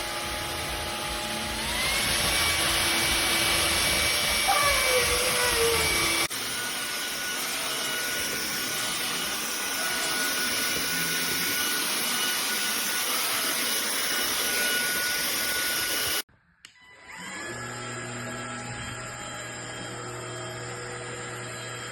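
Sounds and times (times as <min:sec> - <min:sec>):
stick vacuum cleaner running: 0:00.0 - 0:16.2, 0:16.9 - 0:21.9.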